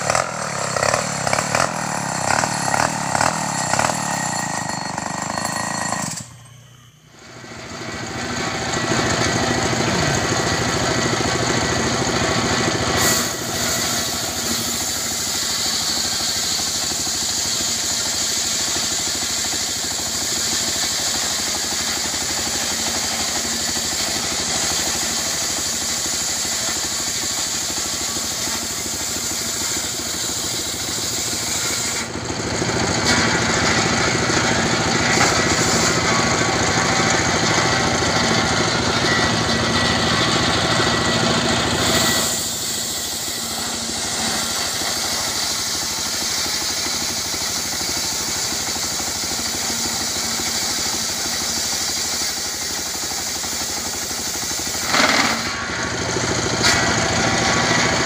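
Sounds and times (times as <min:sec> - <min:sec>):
circular saw cutting log: 0:00.0 - 0:06.6, 0:07.2 - 0:58.0
diesel engine running: 0:00.0 - 0:58.0.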